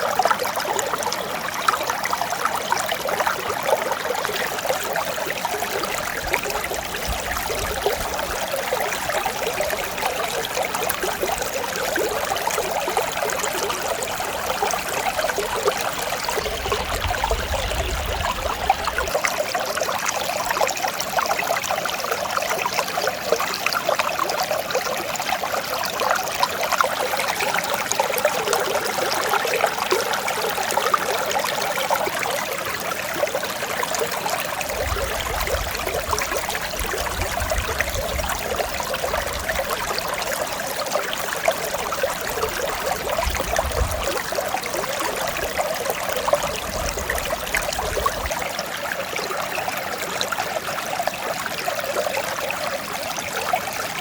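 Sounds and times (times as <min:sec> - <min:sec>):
mountain stream rushing and trickling: 0:00.0 - 0:54.0.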